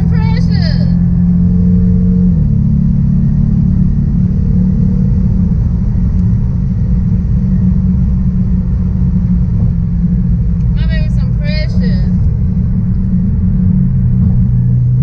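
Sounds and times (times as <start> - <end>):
car engine drone: 0.0 - 15.0
road rumble: 0.0 - 15.0.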